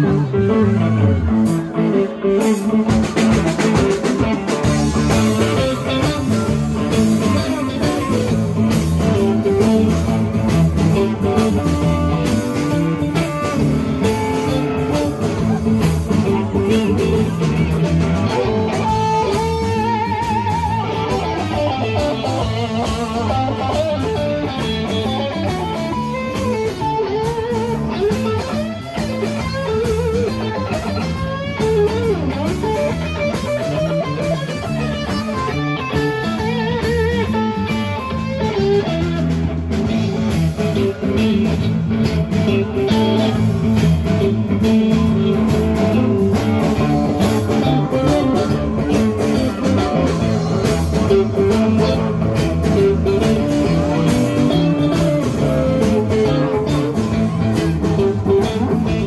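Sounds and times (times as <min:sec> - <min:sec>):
blues band playing: 0:00.0 - 0:59.0
electric guitar lead: 0:00.0 - 0:59.0.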